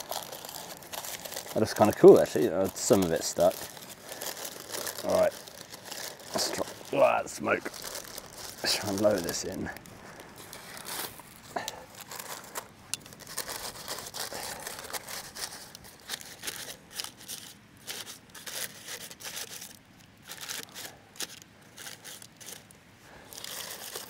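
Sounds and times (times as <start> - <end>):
paper crinkling and rustling: 0.0 - 24.0.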